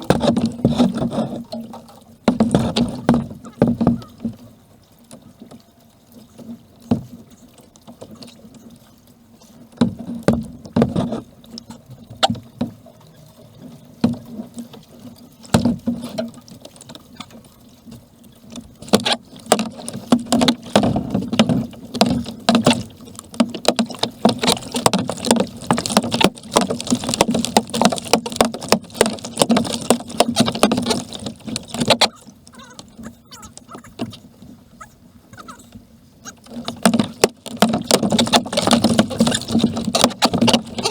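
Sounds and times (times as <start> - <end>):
paddle splashes: 0.0 - 40.9.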